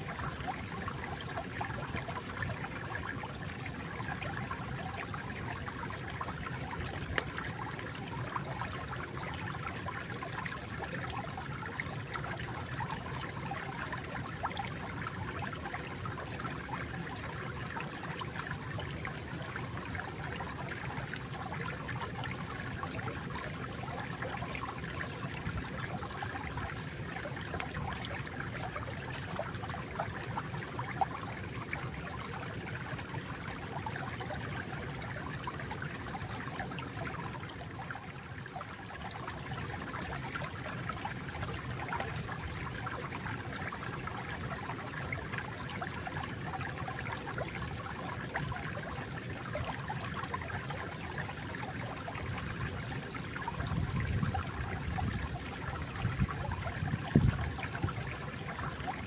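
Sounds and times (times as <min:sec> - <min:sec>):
water flowing gently: 0:00.0 - 0:59.0.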